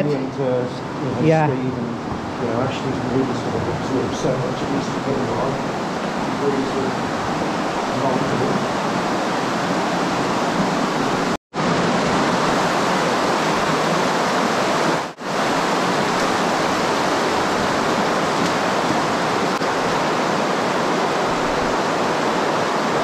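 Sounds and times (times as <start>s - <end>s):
water rushing over rubble: 0.2s - 23.0s.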